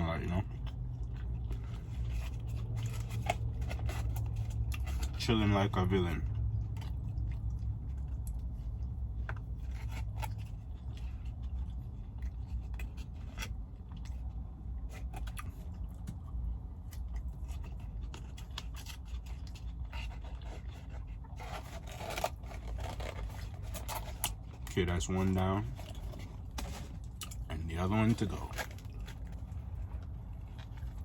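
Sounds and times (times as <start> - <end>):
chewing and eating: 0.0 - 31.0.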